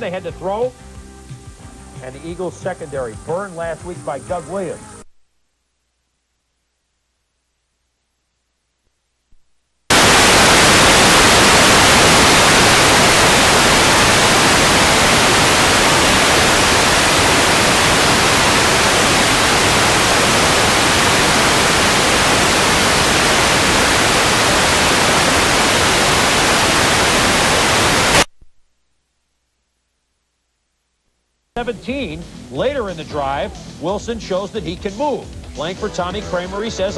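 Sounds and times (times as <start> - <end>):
tv static hiss: 0.0 - 36.9.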